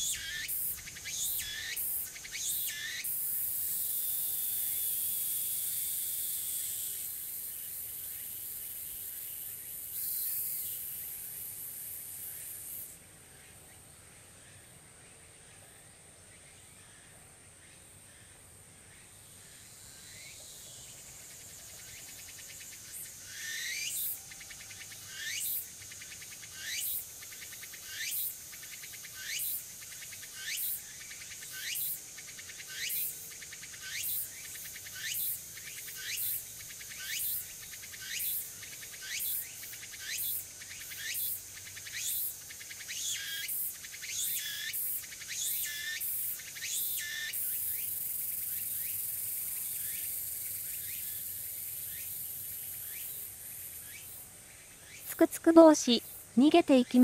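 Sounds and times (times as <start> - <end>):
cicada singing: 0.0 - 13.0, 18.9 - 57.0.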